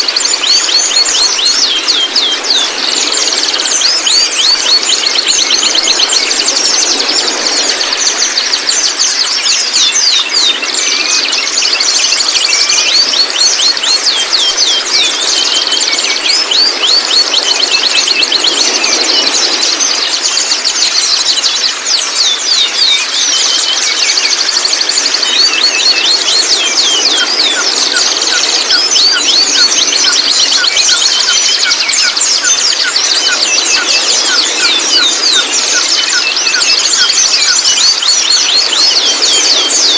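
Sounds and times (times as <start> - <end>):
birds chattering high chirps: 0.0 - 39.9
low repeated bird notes: 0.0 - 39.9.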